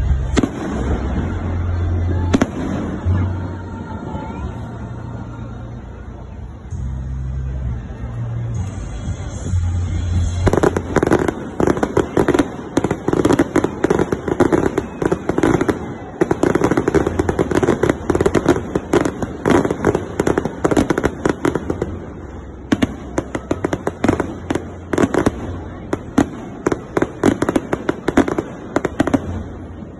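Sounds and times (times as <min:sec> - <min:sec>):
fireworks cracking and banging: 0:00.0 - 0:04.6, 0:09.6 - 0:29.9.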